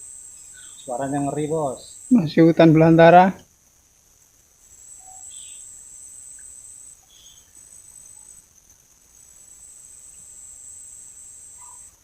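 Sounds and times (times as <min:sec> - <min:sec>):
insects trilling: 0:00.0 - 0:12.0
low insect hum: 0:00.0 - 0:12.0.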